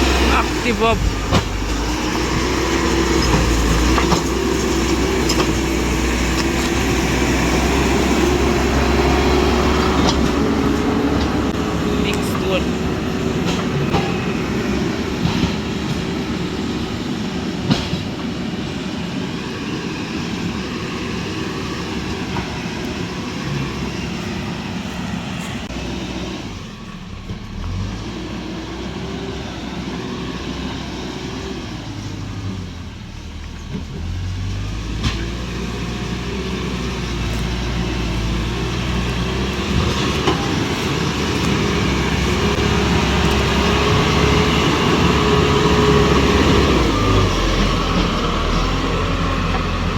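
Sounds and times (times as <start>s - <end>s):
diesel tractor engine: 0.0s - 49.9s.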